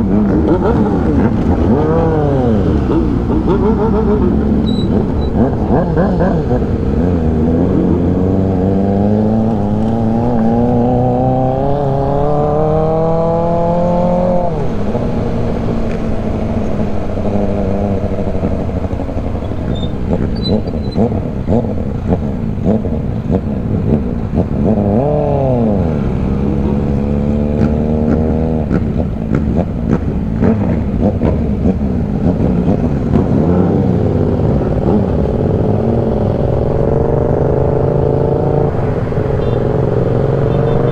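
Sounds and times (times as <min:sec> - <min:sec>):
motorcycle engine revving: 0:00.0 - 0:40.9
wind and road rumble: 0:00.0 - 0:40.9.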